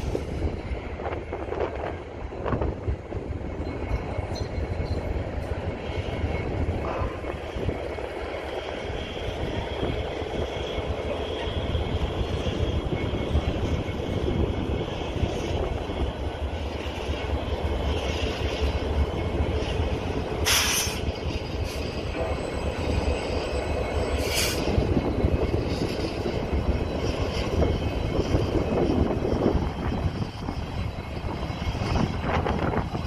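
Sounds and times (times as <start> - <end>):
diesel locomotive engine running: 0.0 - 33.0
train wheels on rail: 0.0 - 33.0.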